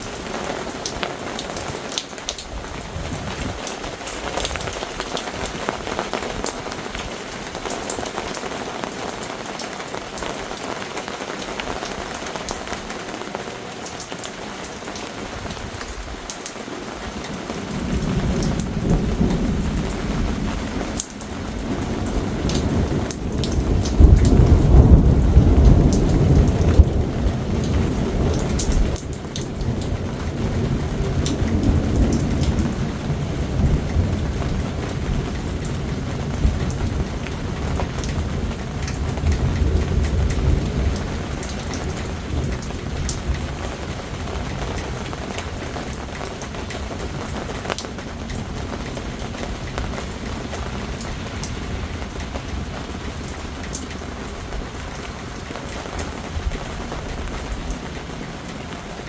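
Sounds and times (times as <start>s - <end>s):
low roll of thunder: 0.0s - 8.2s, 17.0s - 59.0s
heavy rain falling: 0.0s - 59.0s.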